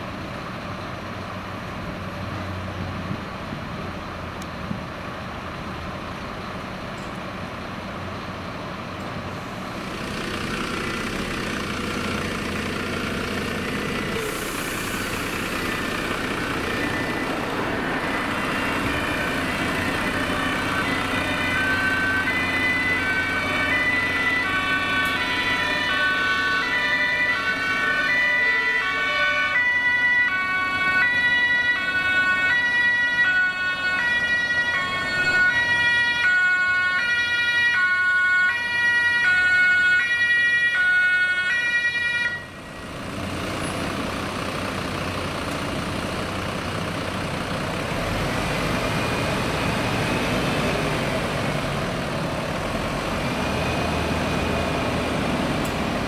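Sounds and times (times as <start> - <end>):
vehicle engines and tyres rumbling: 0.0 - 56.0
two-tone sirens: 5.5 - 56.0.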